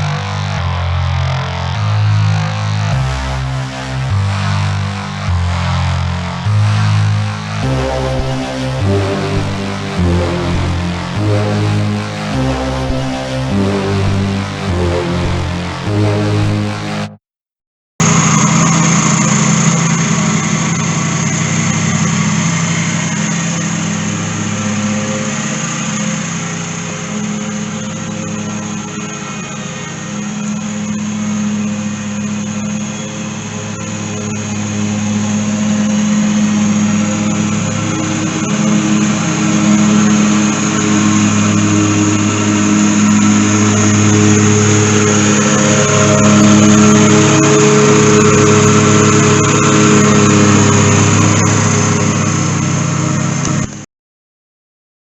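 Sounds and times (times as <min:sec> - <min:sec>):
lawn mower engine running: 0:03.8 - 0:16.9, 0:18.0 - 0:53.8.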